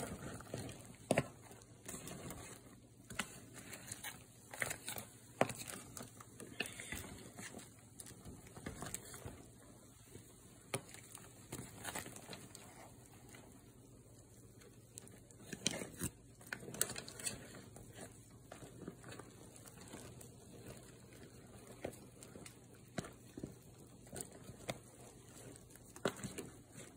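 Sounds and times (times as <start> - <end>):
pot boiling: 0.0 - 26.9.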